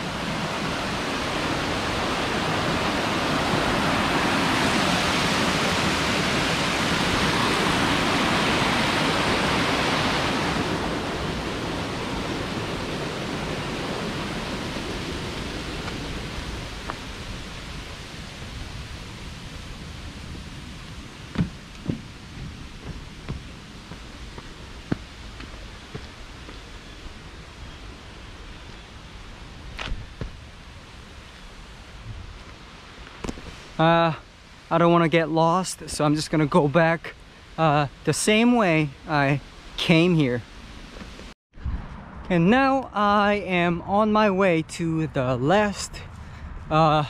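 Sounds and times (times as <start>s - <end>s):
falling water rushing: 0.0s - 28.6s, 29.2s - 41.4s.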